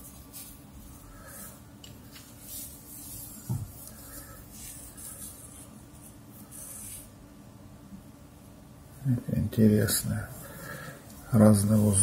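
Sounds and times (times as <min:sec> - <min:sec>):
soft hissing breaths: 0:00.0 - 0:12.0.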